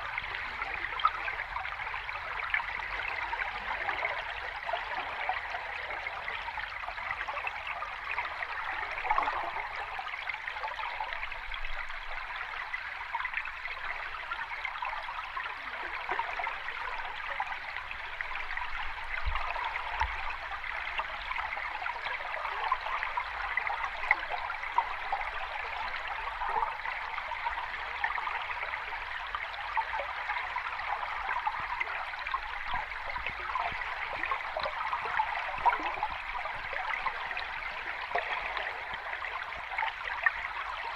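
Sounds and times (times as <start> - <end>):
water rushing and trickling: 0.0 - 40.9.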